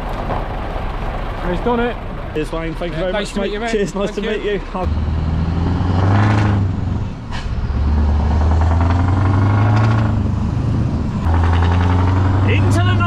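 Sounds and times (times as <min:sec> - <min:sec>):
lorry diesel engine accelerating: 0:00.0 - 0:13.0.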